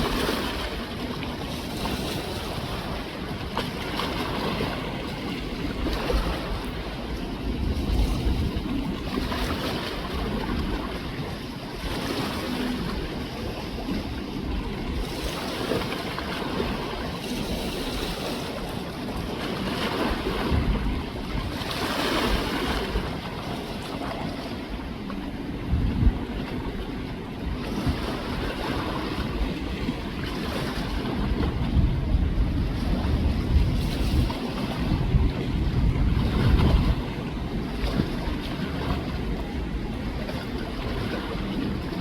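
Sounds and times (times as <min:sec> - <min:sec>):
river water washing: 0:00.0 - 0:42.0
wind buffeting microphone: 0:00.0 - 0:42.0.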